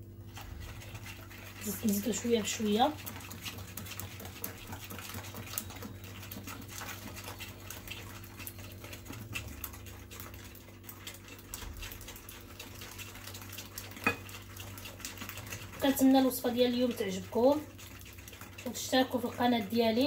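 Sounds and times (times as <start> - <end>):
whisk clicking against bowl: 0.4 - 20.0.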